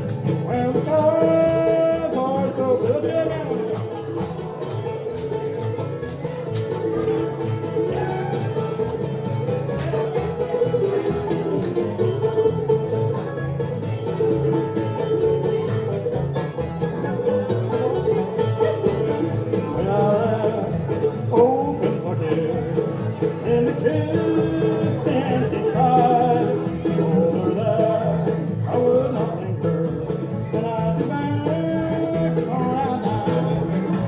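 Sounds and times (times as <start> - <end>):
bluegrass band playing: 0.0 - 34.0.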